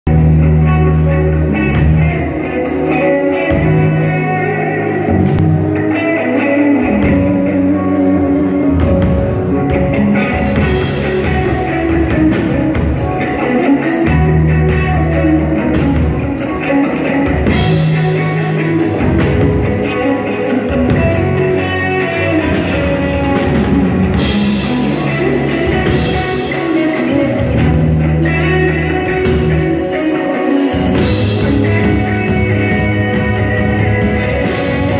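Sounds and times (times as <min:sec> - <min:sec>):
drums: 0:00.0 - 0:34.9
sustained bass guitar notes: 0:00.0 - 0:34.9
electric guitar through amplifier: 0:00.1 - 0:34.9.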